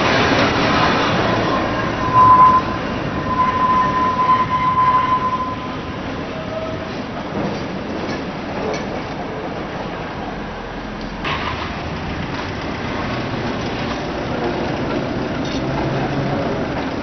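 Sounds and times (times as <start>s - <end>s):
tram wheel squeal: 0.0s - 10.6s, 12.5s - 17.0s
rumble of wheels on rails: 0.0s - 17.0s.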